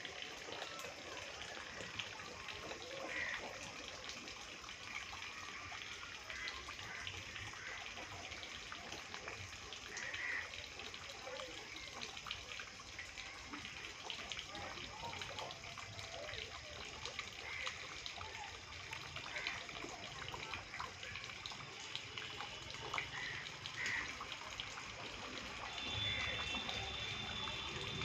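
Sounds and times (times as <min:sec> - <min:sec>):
water trickling into a pond: 0:00.0 - 0:28.0.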